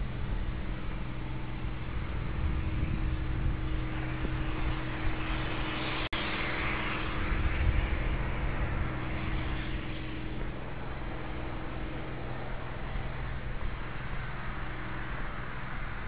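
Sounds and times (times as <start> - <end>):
low drone and rumble: 0.0 - 16.0.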